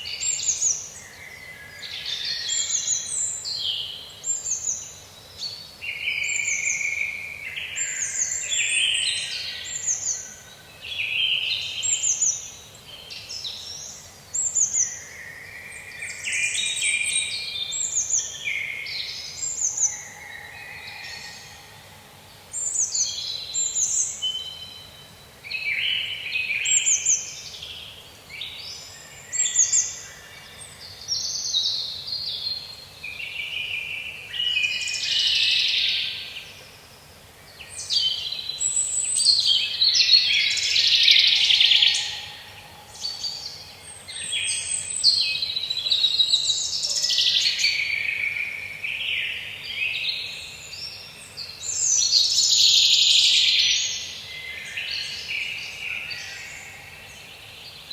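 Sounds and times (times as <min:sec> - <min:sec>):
faint steady hiss: 0:00.0 - 0:57.9
songbirds singing: 0:00.0 - 0:57.9.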